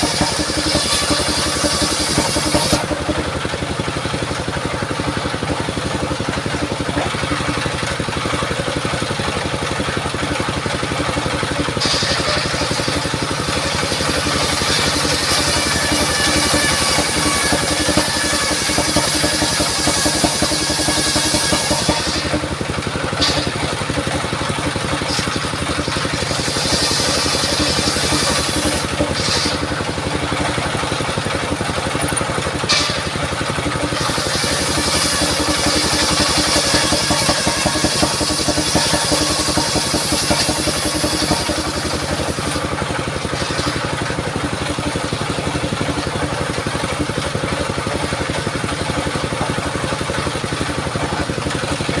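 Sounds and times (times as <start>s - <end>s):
saw blade cutting wood: 0.0s - 52.0s
sawmill engine droning: 0.0s - 52.0s.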